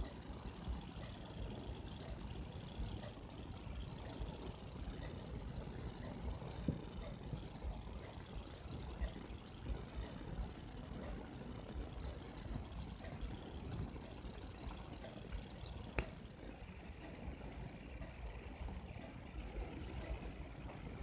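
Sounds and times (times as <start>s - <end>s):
faint ticking: 0.0s - 21.0s
low background rumble: 0.0s - 21.0s.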